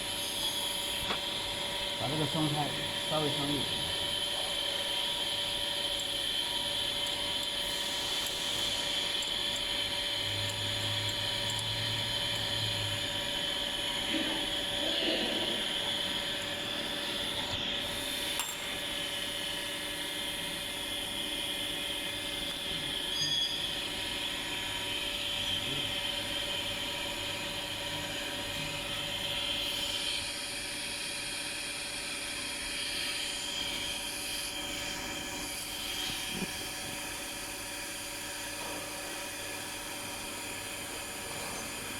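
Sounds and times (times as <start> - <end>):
machinery humming and whining: 0.0 - 41.9.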